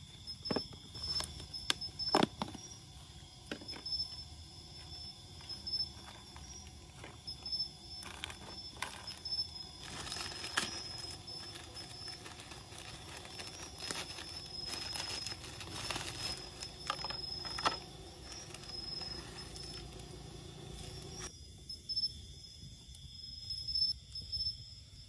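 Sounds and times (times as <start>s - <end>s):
rustles and crunches: 0.0s - 21.3s
insect chirring: 0.0s - 25.0s.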